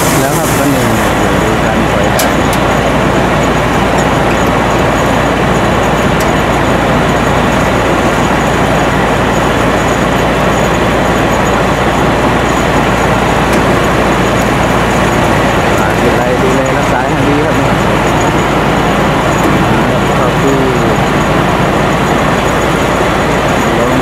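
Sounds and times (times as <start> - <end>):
combine harvester engine running: 0.0 - 24.0.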